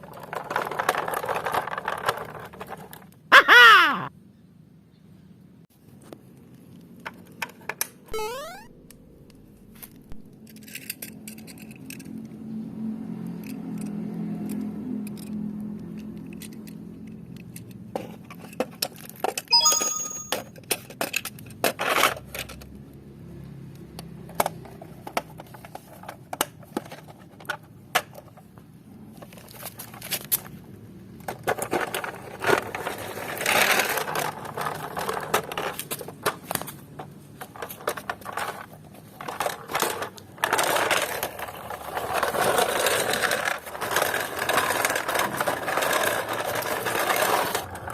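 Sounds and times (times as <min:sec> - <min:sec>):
toy cars clicking and clinking: 0:00.0 - 0:03.3, 0:09.8 - 0:12.4, 0:13.2 - 0:22.7, 0:24.0 - 0:30.6, 0:31.2 - 0:47.9.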